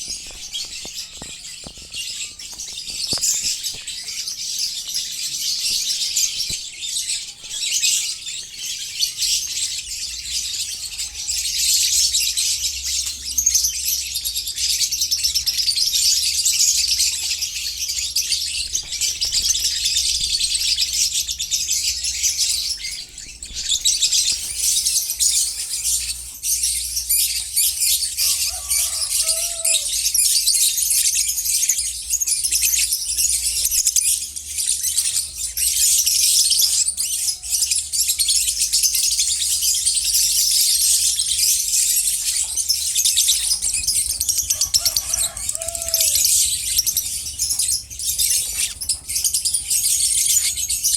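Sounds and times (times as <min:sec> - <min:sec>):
lovebirds chattering: 0:00.0 - 0:13.1, 0:14.3 - 0:50.9.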